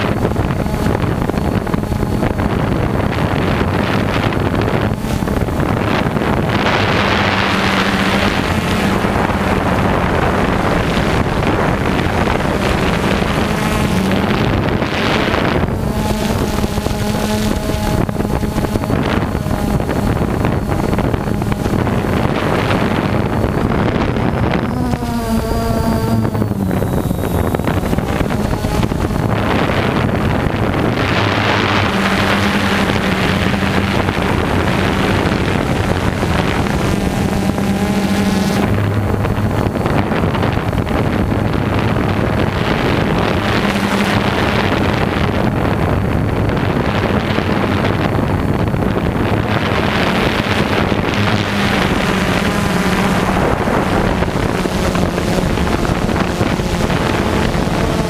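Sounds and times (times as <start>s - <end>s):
drone propellers buzzing: 0.0s - 58.0s
wind noise on microphone: 0.0s - 58.0s.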